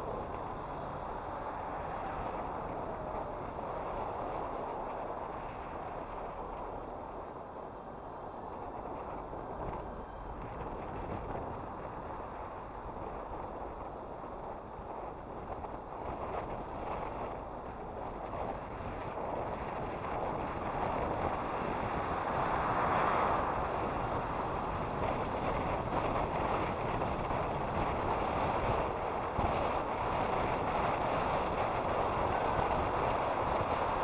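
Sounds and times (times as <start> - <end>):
street traffic rushing: 0.0 - 34.0
wind on microphone: 0.0 - 34.0.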